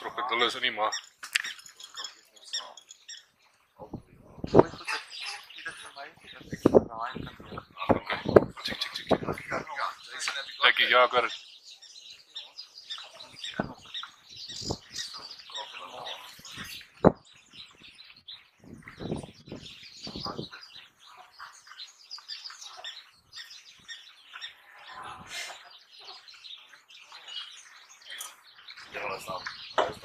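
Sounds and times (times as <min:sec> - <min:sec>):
wild dogs chirping and squeaking: 0:00.0 - 0:30.0.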